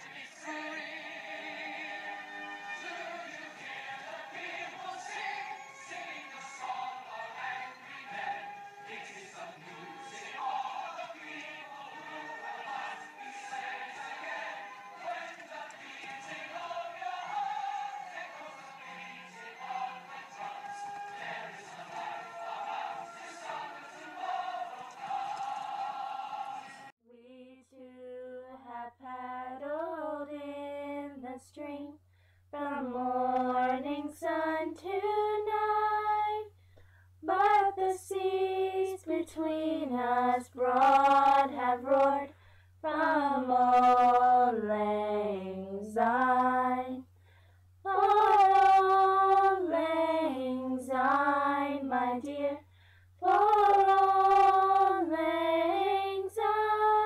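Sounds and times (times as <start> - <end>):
girls singing unaccompanied: 0.0 - 26.9, 32.6 - 36.5, 37.2 - 47.0, 47.9 - 52.6, 53.2 - 57.0.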